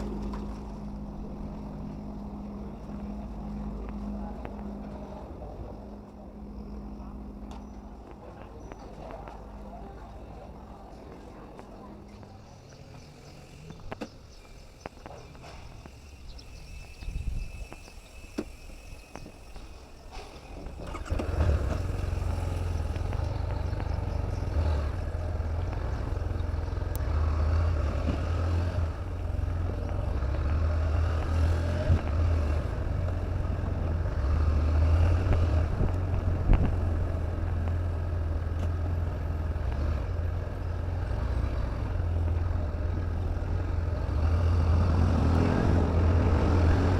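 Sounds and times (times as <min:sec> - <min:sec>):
vehicle engine rumbling: 0:00.0 - 0:46.9.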